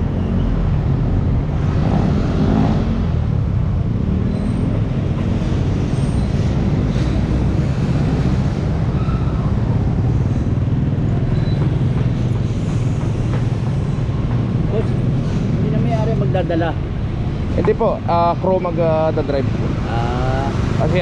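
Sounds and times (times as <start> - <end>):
motorcycles passing: 0.0 - 21.0
street traffic: 0.0 - 21.0.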